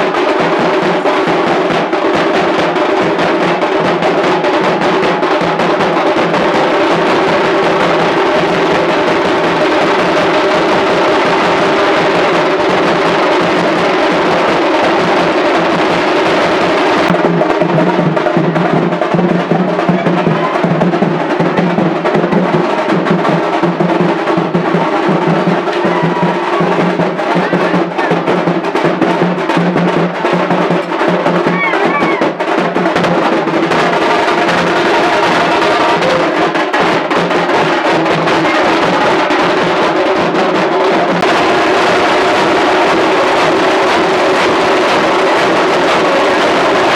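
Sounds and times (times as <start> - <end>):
music with drum beat: 0.0 - 46.9.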